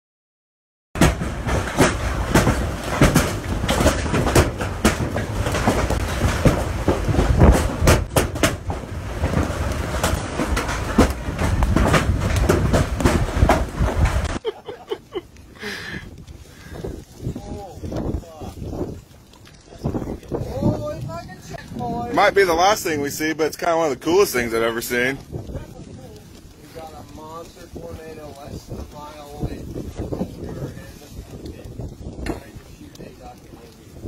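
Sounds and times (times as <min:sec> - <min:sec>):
storm wind roaring: 0:01.0 - 0:34.0
wind buffeting microphone: 0:01.0 - 0:34.0.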